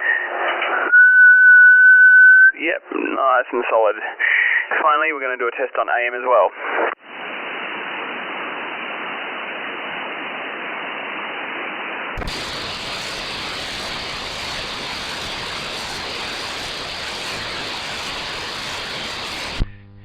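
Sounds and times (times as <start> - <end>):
radio static hiss: 2.6 - 10.6, 11.5 - 19.9.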